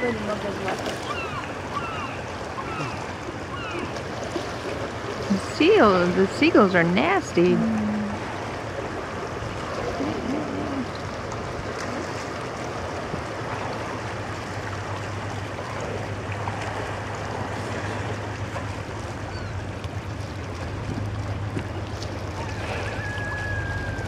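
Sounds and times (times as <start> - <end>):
rushing water: 0.0 - 24.0
wind: 0.0 - 24.0.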